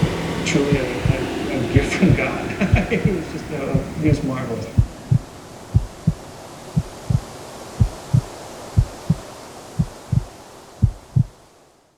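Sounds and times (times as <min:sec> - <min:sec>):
slow heartbeat thumps: 0:00.0 - 0:11.4
faint steady hiss: 0:00.0 - 0:11.9.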